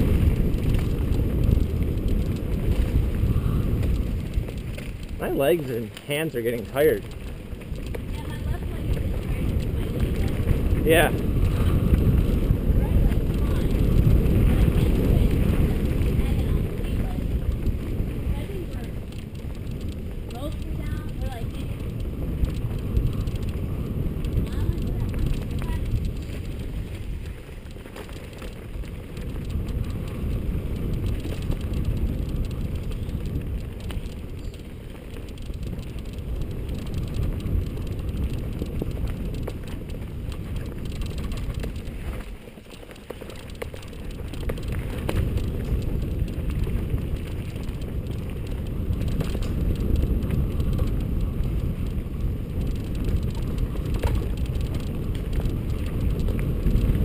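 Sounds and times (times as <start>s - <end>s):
bike clicks and rattles: 0.0s - 57.0s
tyres rumbling on dirt: 0.0s - 57.0s
wind buffeting microphone: 0.0s - 57.0s.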